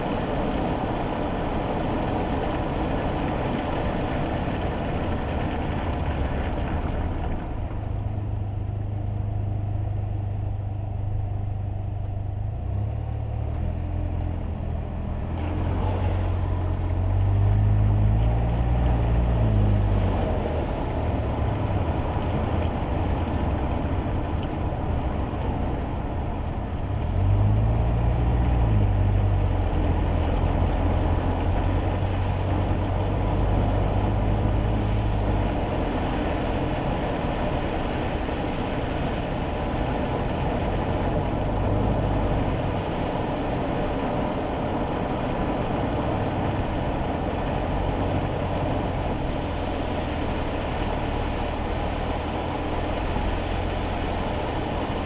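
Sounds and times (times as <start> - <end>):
tyre noise on wet road: 0.0 - 55.0.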